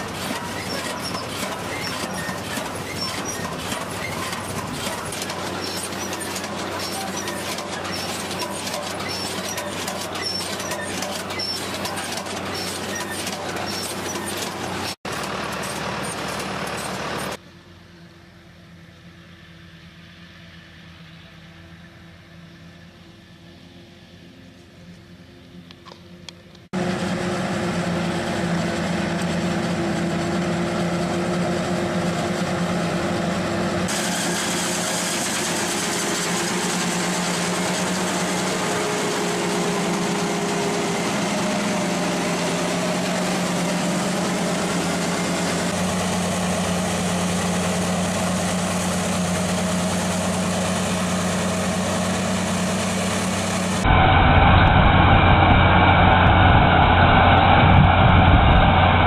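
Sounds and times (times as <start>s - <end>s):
heavy machinery engines humming: 0.0s - 59.0s.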